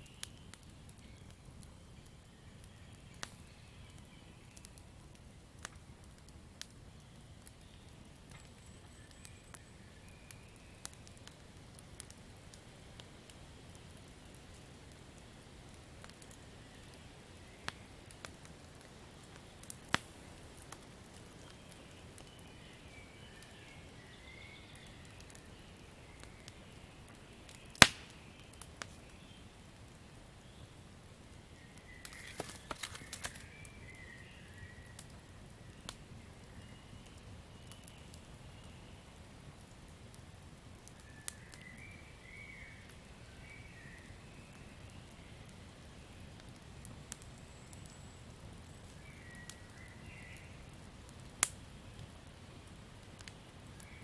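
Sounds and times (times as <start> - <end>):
campfire crackling: 0.1 - 54.0.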